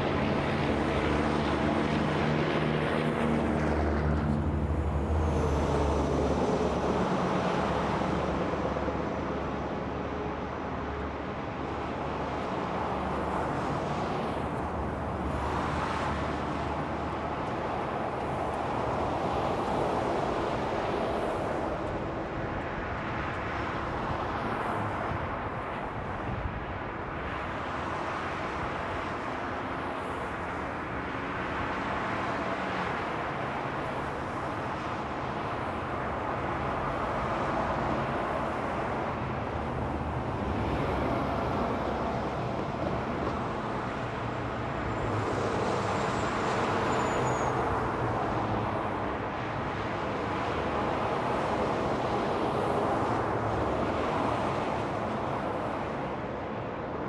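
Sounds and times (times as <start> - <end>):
freeway traffic: 0.0 - 57.0.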